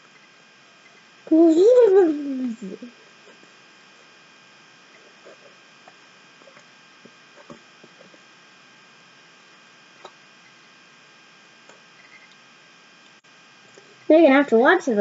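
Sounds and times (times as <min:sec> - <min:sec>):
electrical hum and hiss: 0:00.0 - 0:15.0.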